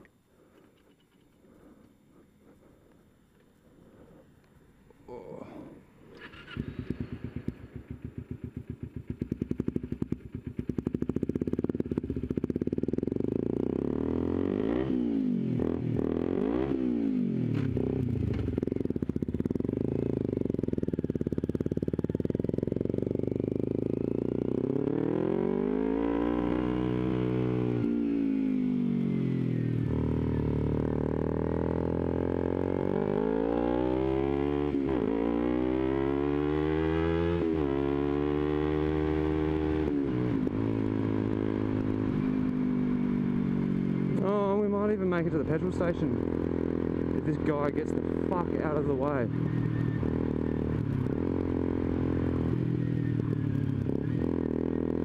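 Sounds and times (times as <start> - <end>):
motorcycle engine accelerating: 6.1 - 55.0.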